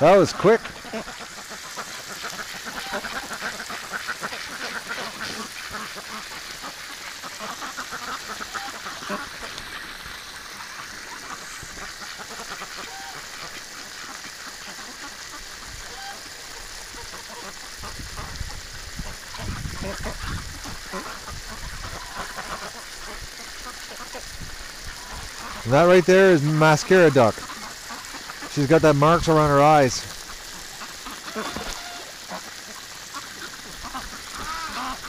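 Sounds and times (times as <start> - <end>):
ducks quacking: 0.0 - 35.0.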